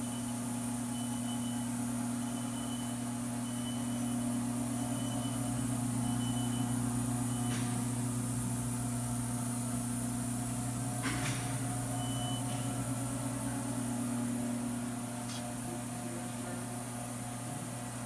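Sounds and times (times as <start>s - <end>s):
machine humming: 0.5s - 18.0s.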